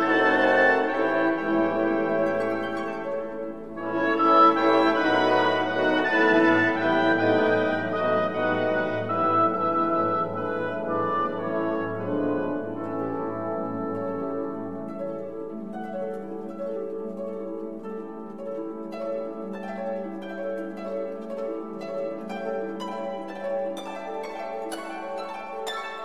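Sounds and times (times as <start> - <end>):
instrumental music with plucked notes: 0.0 - 26.0.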